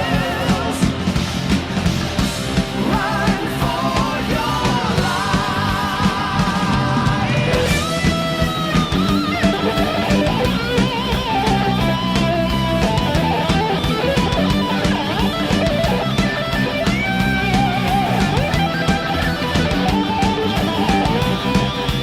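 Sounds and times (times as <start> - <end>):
rock music with vocals: 0.0 - 22.0.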